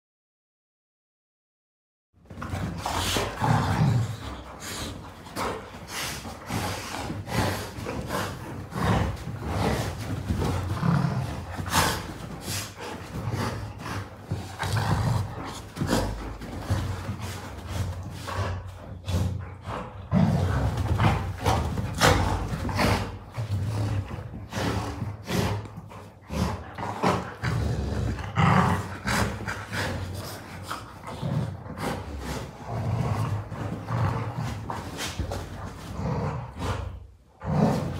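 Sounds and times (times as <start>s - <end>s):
dogs growling: 2.2s - 37.9s.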